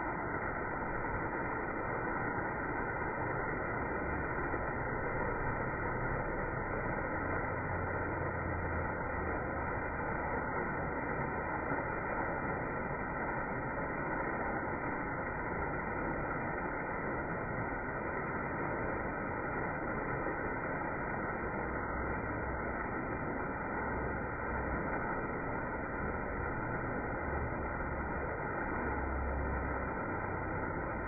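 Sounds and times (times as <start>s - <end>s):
waterfall rushing over rock: 0.0s - 31.0s.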